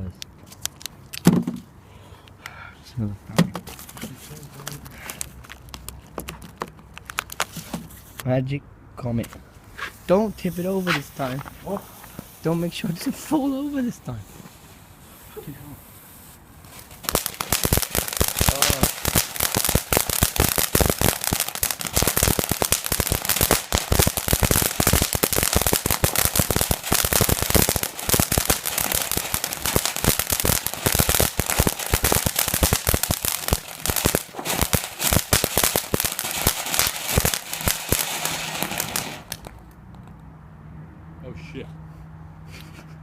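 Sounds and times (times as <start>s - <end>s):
firework crackling: 3.6s - 8.2s, 9.8s - 39.6s.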